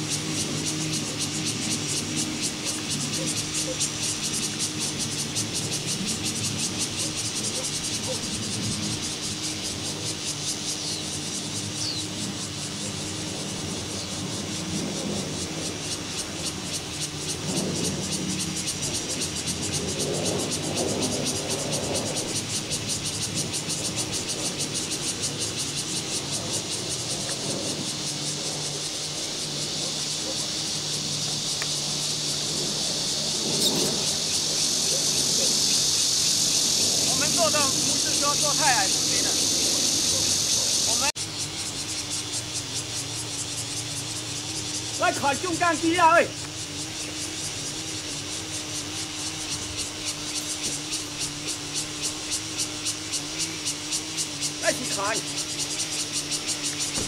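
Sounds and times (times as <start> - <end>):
distant small engine running: 0.0 - 57.0.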